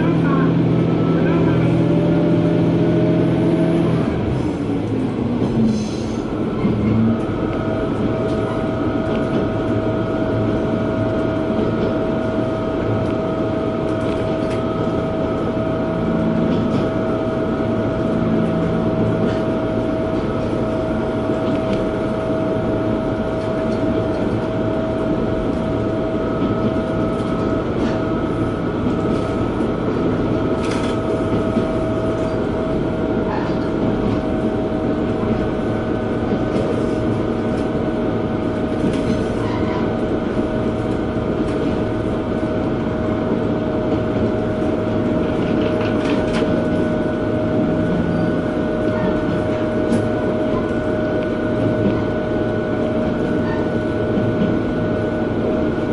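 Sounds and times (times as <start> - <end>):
railcar engine and wheels rumble: 0.0 - 55.9.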